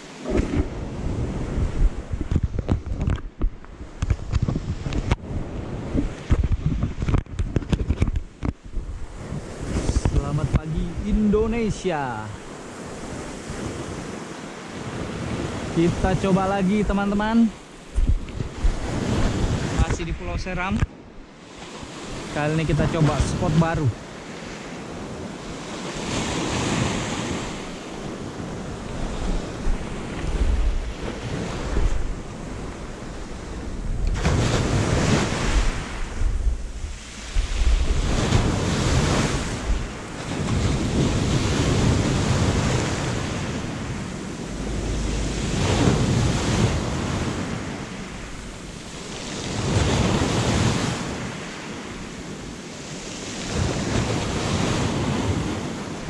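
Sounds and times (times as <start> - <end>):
wind buffeting microphone: 0.0 - 16.4, 17.2 - 56.0
waves washing onto shore: 0.0 - 56.0.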